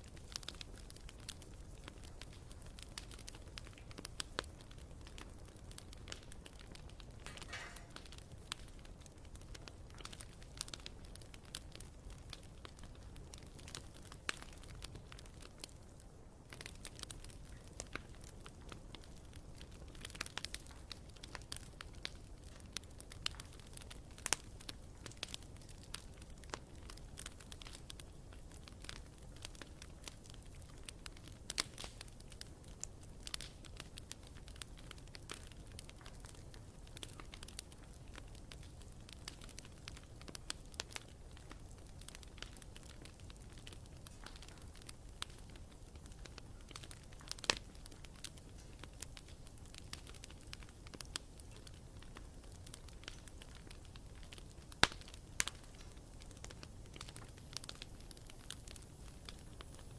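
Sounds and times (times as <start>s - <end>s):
campfire crackling and popping: 0.0s - 59.9s
low rumble of flames: 0.0s - 59.9s.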